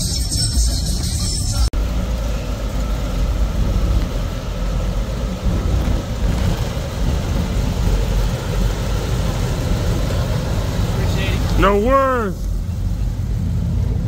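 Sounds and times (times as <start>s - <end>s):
car engine and exhaust rumbling: 0.0s - 14.0s.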